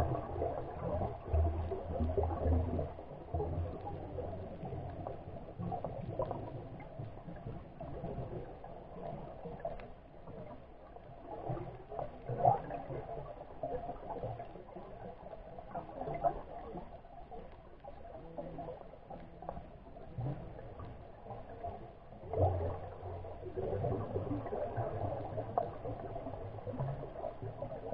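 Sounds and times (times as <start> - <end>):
muffled underwater hum and gurgle: 0.0 - 27.9.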